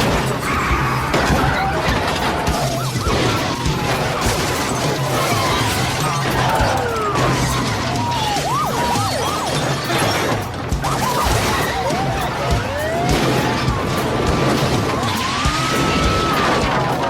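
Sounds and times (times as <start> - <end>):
car crashes: 0.0 - 17.0
car engines running: 0.0 - 17.0
glass shattering: 0.0 - 17.0
tire screeches: 0.0 - 17.0.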